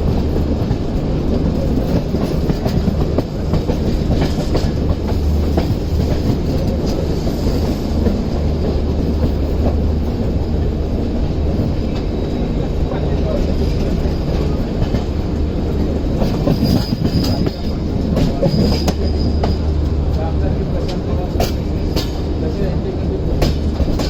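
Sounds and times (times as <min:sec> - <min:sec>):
train coaches rumbling: 0:00.0 - 0:24.0.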